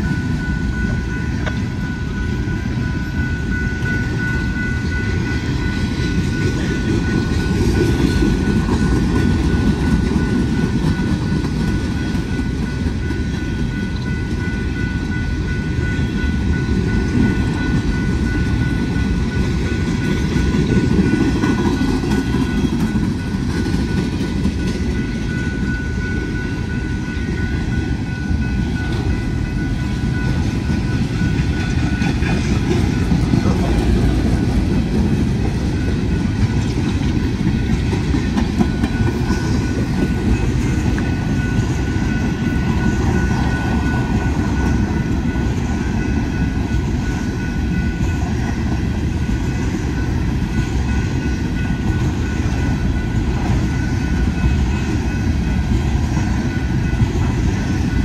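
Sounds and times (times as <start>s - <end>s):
freight train wheels rumbling: 0.0s - 58.0s
high ringing tones: 0.0s - 58.0s.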